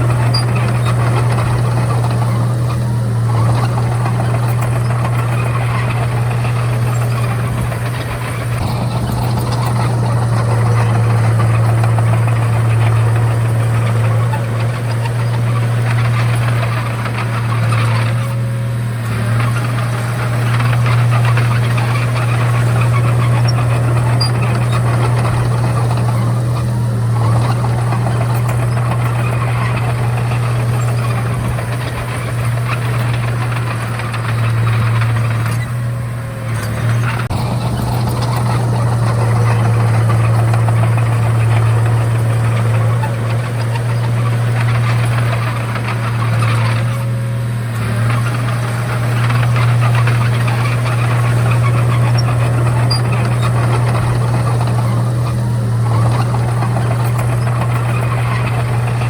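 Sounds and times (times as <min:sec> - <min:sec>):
bulldozer diesel engine hum: 0:00.0 - 0:59.0
tracks and blade clattering: 0:00.0 - 0:59.0.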